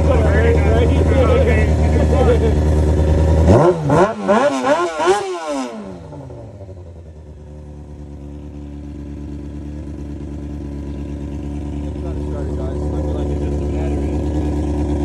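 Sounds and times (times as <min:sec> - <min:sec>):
motorcycle engine revving then idling: 0:00.0 - 0:15.0.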